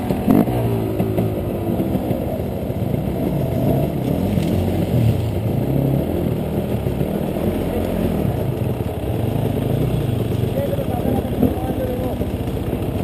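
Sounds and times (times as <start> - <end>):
dirt bike engines at low revs: 0.0 - 13.0.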